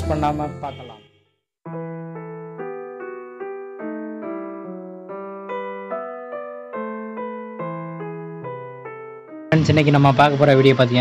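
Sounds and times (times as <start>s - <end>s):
gentle keyboard melody: 0.0s - 1.0s, 1.7s - 10.6s.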